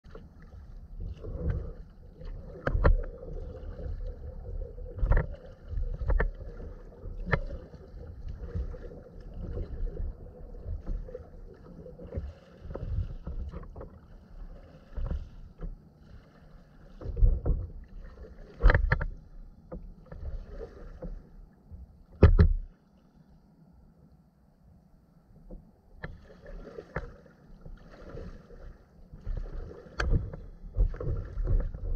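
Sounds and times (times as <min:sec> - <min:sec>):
paddle splashing and dripping: 0:00.0 - 0:21.3, 0:26.0 - 0:31.9.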